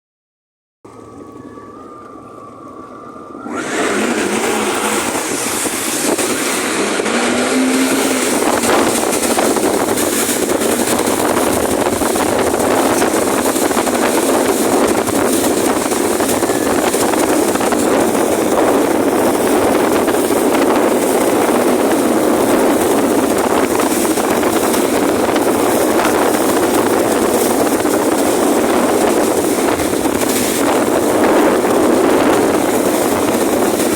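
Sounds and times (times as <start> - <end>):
jet ski engine: 0.9 - 33.9
wind and water rushing: 3.2 - 33.9.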